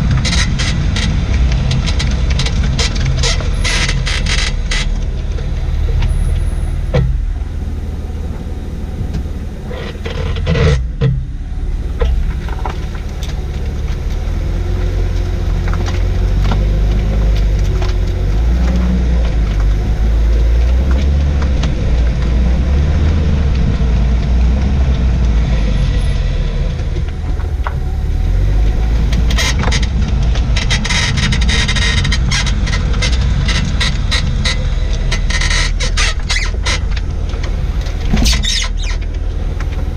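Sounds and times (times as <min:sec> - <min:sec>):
car rumbling over road: 0:00.0 - 0:39.9
suspension creaking and squeaking: 0:00.0 - 0:39.9.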